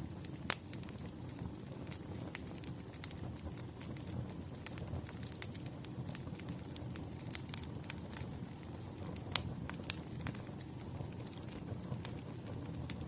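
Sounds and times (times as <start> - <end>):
firewood crackling and popping: 0.0 - 13.0
low rush of flames: 0.0 - 13.0.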